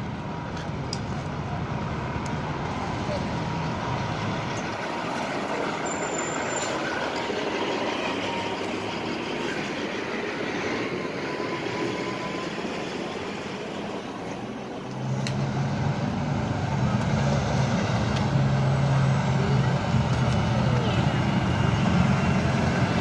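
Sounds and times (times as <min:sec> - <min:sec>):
tyres on road: 0:00.0 - 0:23.0
vehicle engines: 0:00.0 - 0:23.0.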